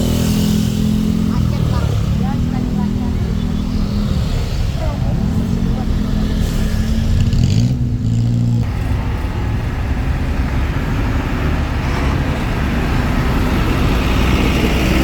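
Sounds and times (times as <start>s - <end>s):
diesel bus engine running: 0.0s - 15.0s.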